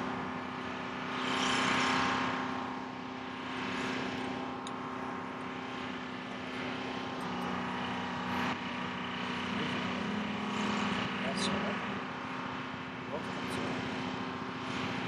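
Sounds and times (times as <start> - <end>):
broad rushing noise: 0.0 - 15.0
diesel engine humming: 2.6 - 15.0.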